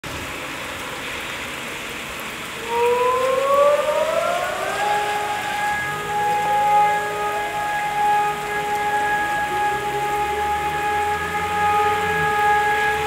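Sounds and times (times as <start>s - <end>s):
rain hissing: 0.0s - 13.0s
lower siren tone: 2.5s - 13.0s.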